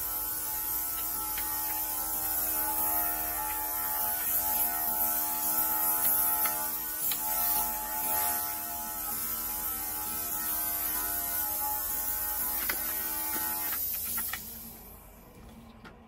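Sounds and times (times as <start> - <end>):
mist sprayer motor buzzing: 0.0 - 14.6.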